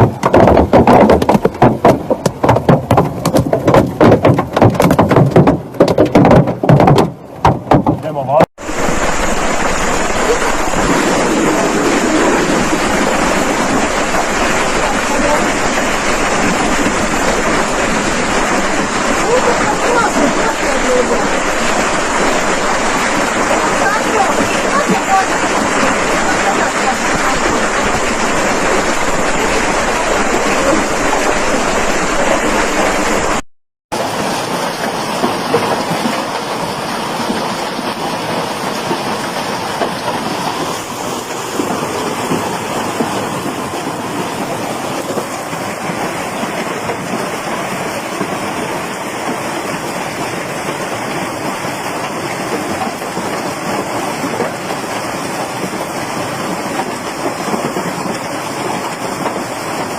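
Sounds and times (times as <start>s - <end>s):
hail and heavy rain pelting: 7.8s - 33.4s, 34.0s - 59.9s.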